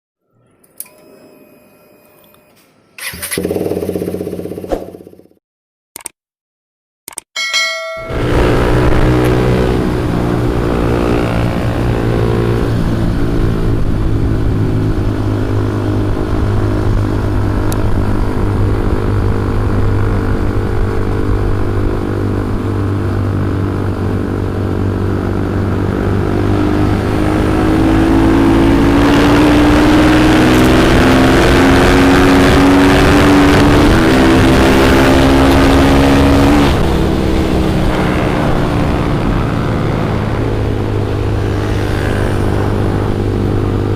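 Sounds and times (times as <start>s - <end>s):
motorcycle engine running: 3.1s - 5.4s, 8.0s - 43.9s.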